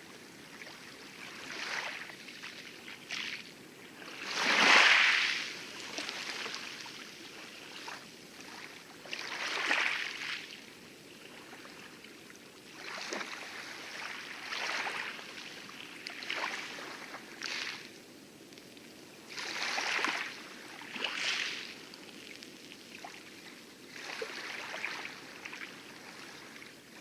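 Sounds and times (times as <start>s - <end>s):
waves lapping over coral: 0.1s - 18.2s, 18.8s - 27.0s.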